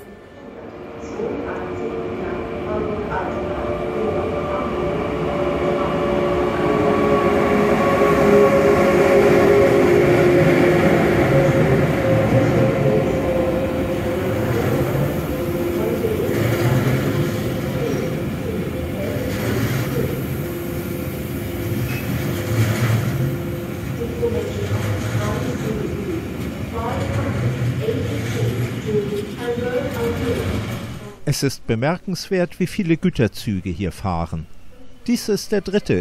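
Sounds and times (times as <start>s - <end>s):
electric locomotive hum: 0.0s - 31.2s
train wagons rumbling: 1.2s - 31.1s.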